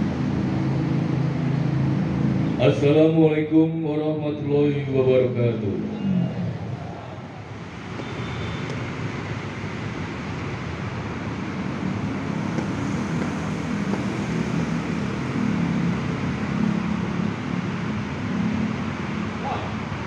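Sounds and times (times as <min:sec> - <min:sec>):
city road traffic rumble: 0:00.0 - 0:20.0.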